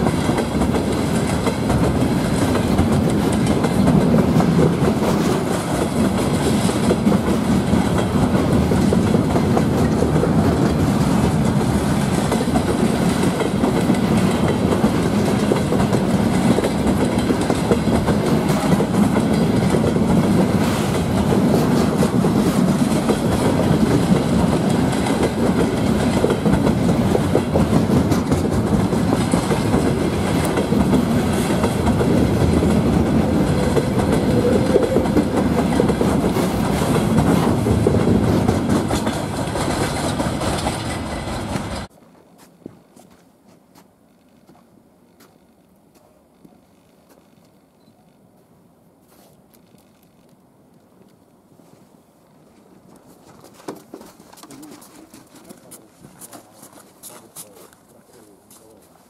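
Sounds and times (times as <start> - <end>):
train wheels rolling over rails: 0.0 - 48.4, 52.2 - 59.0.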